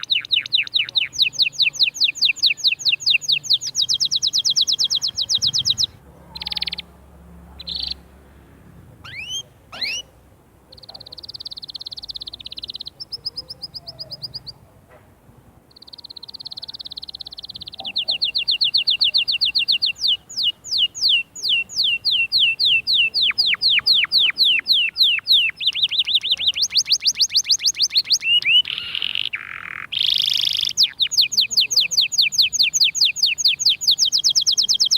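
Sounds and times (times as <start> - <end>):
canary singing: 0.0 - 14.8, 15.7 - 34.9.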